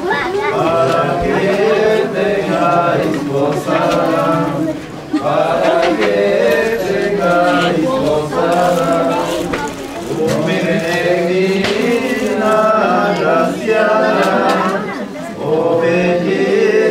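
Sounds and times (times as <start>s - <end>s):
voices chanting together: 0.0s - 16.9s.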